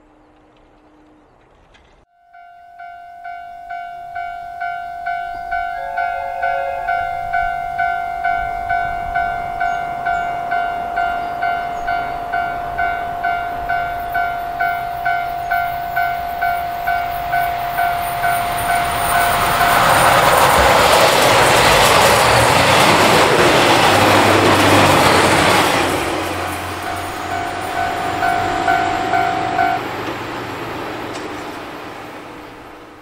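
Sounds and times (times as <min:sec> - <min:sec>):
diesel train passing: 0:00.0 - 0:33.0
railroad crossing alarm ringing: 0:02.1 - 0:31.6.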